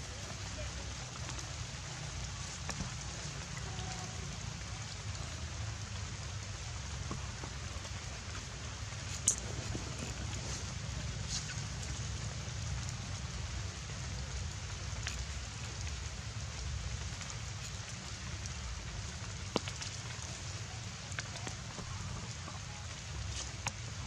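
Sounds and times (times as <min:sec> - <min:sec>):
rain patter: 0:00.0 - 0:24.0.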